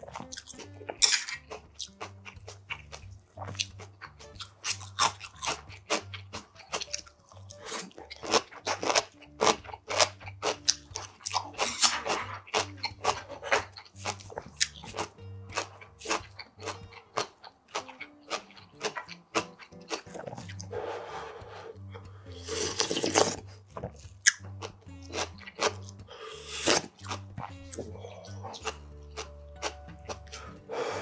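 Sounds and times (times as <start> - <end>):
slurping noodles: 0.0 - 17.8, 18.8 - 24.5, 25.1 - 28.8
crunchy chewing: 0.0 - 31.0
soft background music: 0.0 - 31.0.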